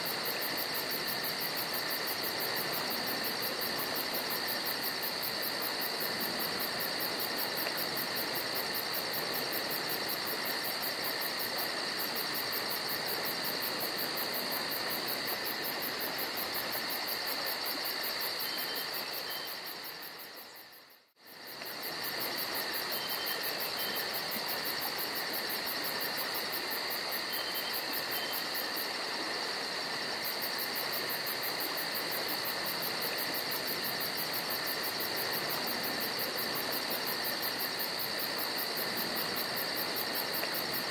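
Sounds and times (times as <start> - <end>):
constant hiss: 0.0 - 40.9
insects trilling: 0.0 - 40.9.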